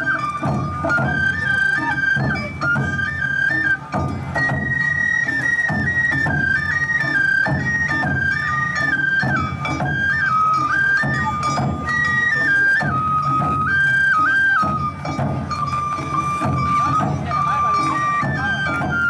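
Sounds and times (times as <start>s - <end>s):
steady drum beat: 0.0s - 13.8s, 14.6s - 19.0s
bamboo flute melody: 0.0s - 19.0s.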